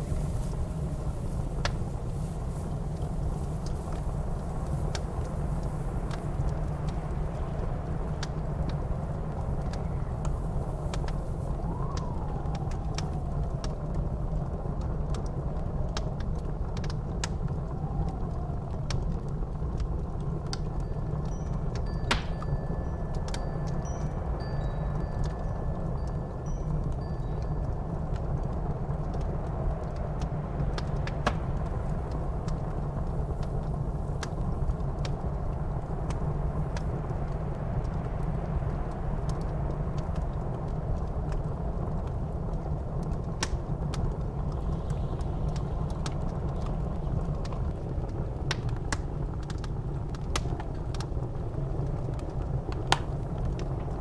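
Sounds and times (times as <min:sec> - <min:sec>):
sharp fire pops: 0:00.0 - 0:22.6, 0:29.1 - 0:54.0
blizzard wind howling: 0:00.0 - 0:54.0
wood fire crackling: 0:00.0 - 0:54.0.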